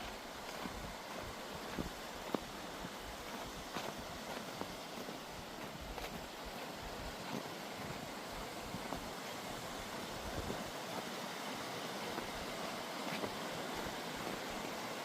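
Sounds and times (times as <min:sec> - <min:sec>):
creek rushing: 0:00.0 - 0:15.0.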